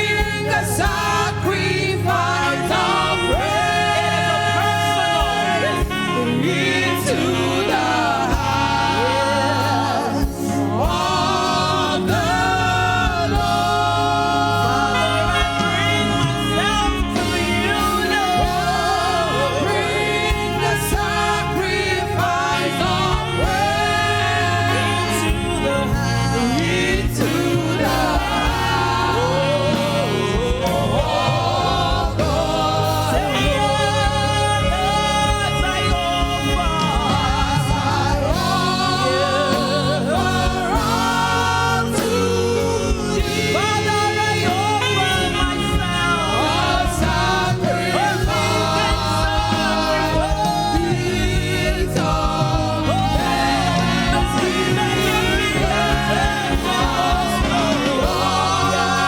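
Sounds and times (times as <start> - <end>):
gospel singers: 0.0 - 59.0
instrumental accompaniment: 0.0 - 59.0.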